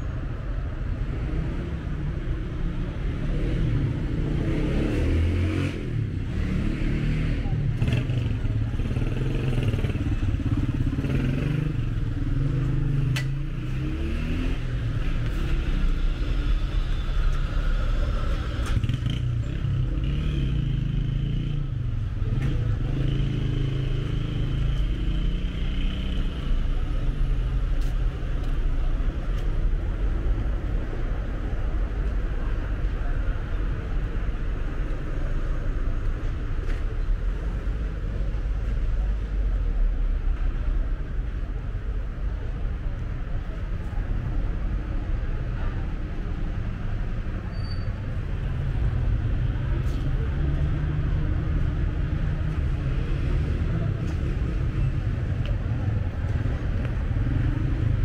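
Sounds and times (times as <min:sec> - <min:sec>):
street traffic rumble: 0:00.0 - 0:58.0.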